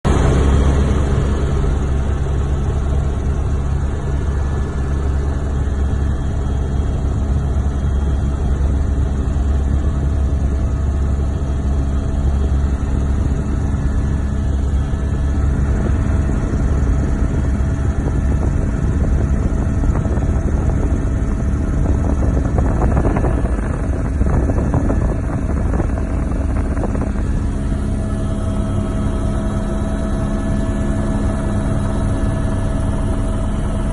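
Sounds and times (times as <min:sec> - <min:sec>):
aircraft engine drone: 0:00.1 - 0:33.9.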